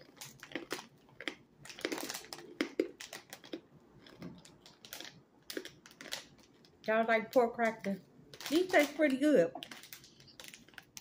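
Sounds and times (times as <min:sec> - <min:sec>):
crunchy food being chewed: 0:00.0 - 0:06.9, 0:08.3 - 0:11.0.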